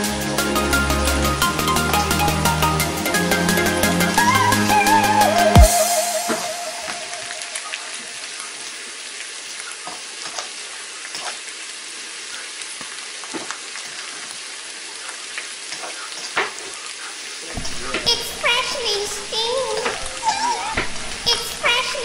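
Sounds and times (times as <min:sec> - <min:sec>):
meat and vegetables sizzling in pan: 0:00.0 - 0:22.0.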